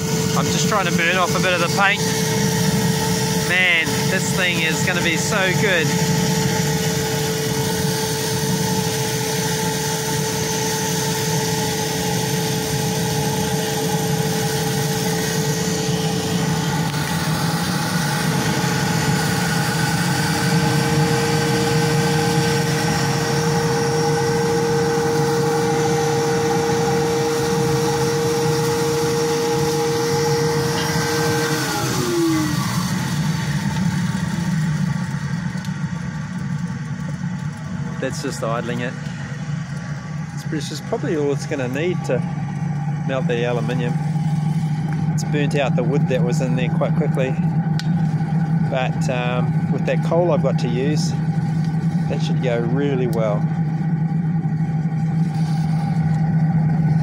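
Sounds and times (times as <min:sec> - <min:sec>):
blower whining: 0:00.0 - 0:57.0
forced-draft fire rushing: 0:00.0 - 0:57.0.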